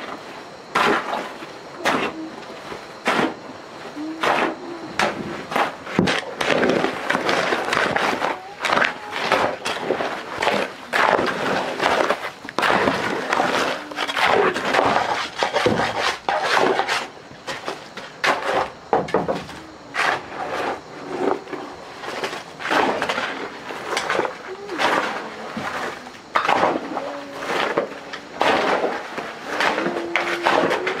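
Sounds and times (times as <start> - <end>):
hand tools knocking and scraping: 0.7 - 3.4, 4.0 - 31.0.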